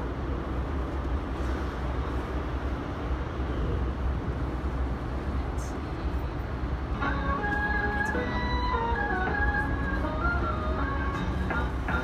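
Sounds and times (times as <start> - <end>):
train rumbling inside passenger car: 0.0 - 12.0.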